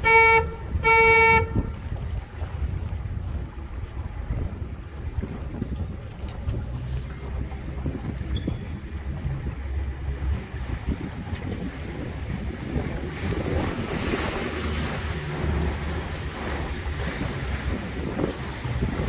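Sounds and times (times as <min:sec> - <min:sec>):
water rushing past boat: 0:00.0 - 0:19.0
wind buffeting microphone: 0:00.0 - 0:19.0.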